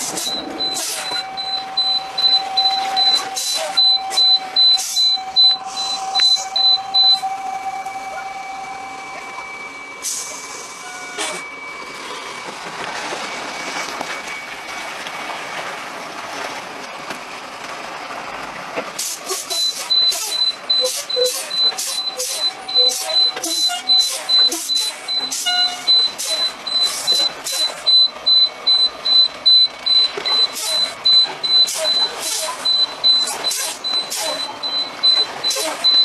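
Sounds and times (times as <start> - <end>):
high electronic beeping: 0.0 - 12.7, 19.5 - 36.0
traffic and engine noise: 0.0 - 36.0.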